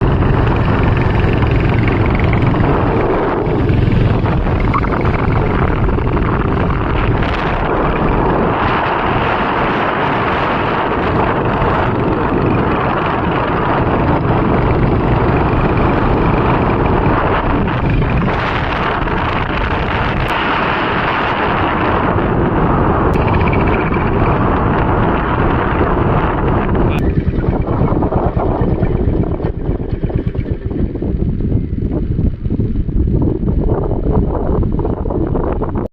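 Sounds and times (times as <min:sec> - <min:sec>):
moving vehicle rumble: 0:00.0 - 0:35.9
wind buffeting microphone: 0:00.0 - 0:35.9.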